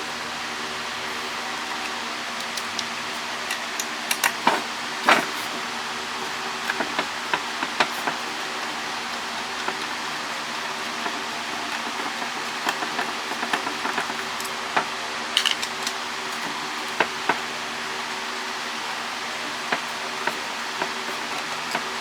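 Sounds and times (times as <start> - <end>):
fan-like hum: 0.0 - 22.0.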